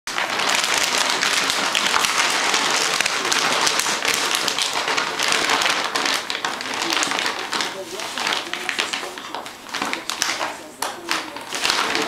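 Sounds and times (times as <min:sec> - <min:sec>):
plastic bag crinkling: 0:00.1 - 0:12.0.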